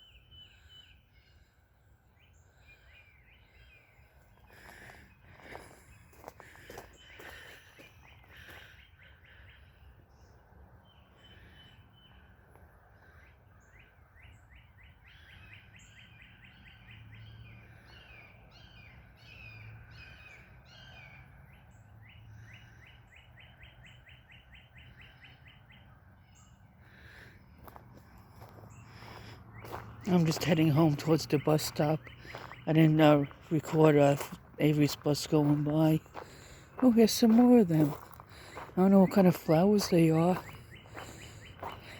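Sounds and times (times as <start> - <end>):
songbirds trilling: 0.0 - 41.9.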